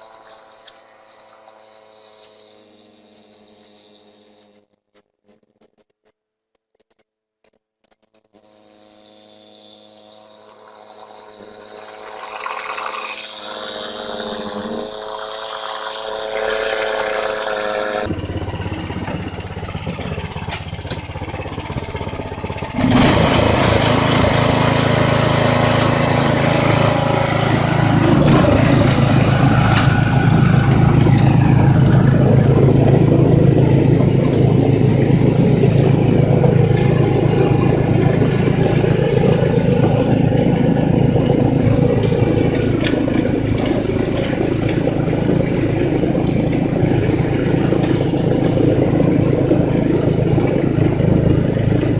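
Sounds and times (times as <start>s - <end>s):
rough engine noise: 0.0s - 4.7s, 9.0s - 51.9s
engine running: 8.9s - 51.9s.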